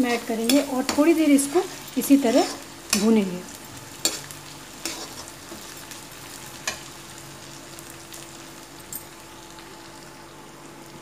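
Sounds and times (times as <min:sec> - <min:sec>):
potatoes and onion sizzling in oil: 0:00.0 - 0:11.0.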